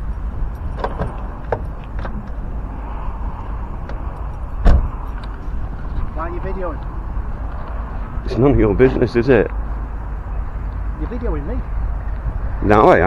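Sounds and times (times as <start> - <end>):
traffic rumble: 0.0 - 13.0
wind: 0.0 - 13.0.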